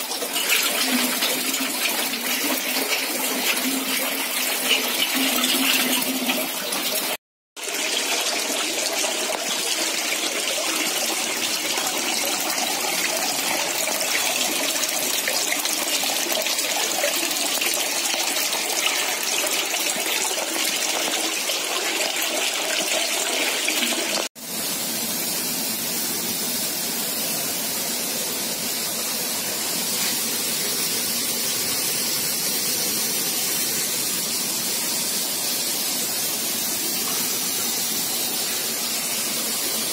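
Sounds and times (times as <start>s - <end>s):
water rushing into tanks: 0.0s - 39.9s.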